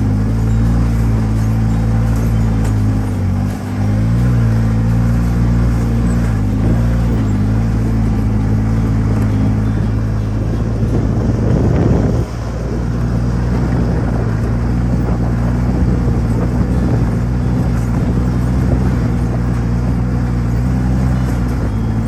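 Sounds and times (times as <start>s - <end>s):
snowmobile engine cruising: 0.0s - 22.0s.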